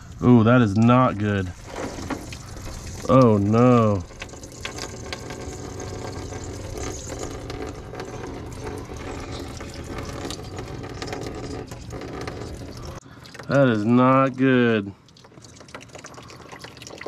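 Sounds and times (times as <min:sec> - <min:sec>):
oil splashing into a drain pan: 0:01.5 - 0:17.0.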